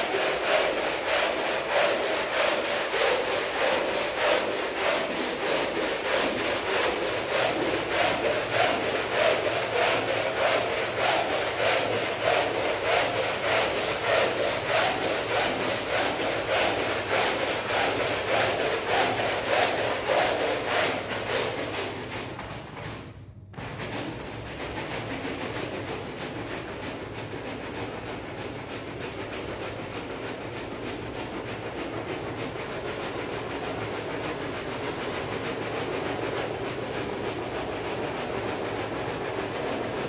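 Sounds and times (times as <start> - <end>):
brush scrubbing a rug: 0.0 - 40.0.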